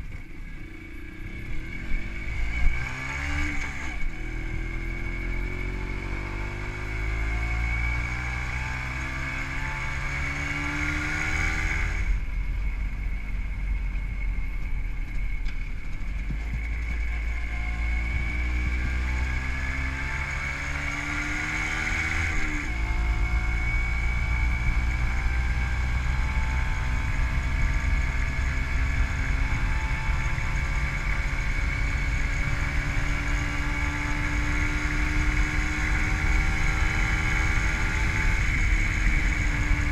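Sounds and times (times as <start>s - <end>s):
low wind rush: 0.0s - 39.9s
two-stroke motorcycle engine: 0.0s - 39.9s.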